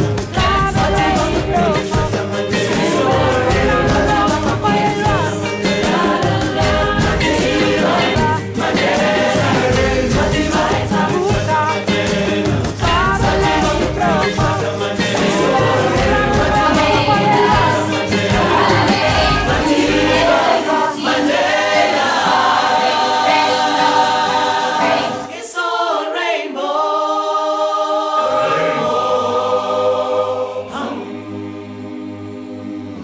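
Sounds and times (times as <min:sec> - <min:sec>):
children's choir singing: 0:00.0 - 0:33.0.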